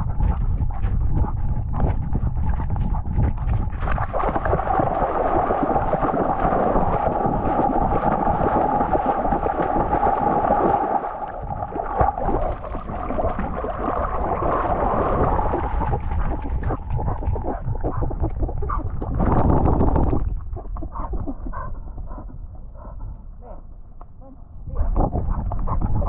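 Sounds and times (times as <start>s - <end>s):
water sloshing and gurgling: 0.0s - 26.0s.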